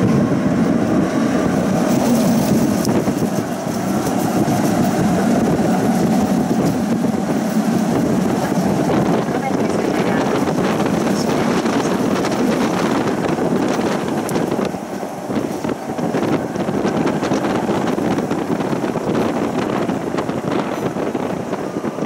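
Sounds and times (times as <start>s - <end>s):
tram running noise: 0.0s - 22.0s
wind rushing over microphone: 0.0s - 22.0s.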